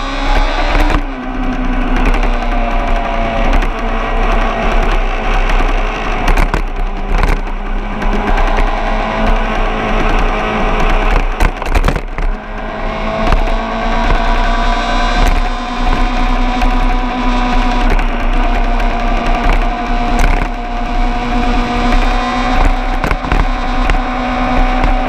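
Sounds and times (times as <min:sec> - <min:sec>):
racing engine at high revs: 0:00.0 - 0:25.0.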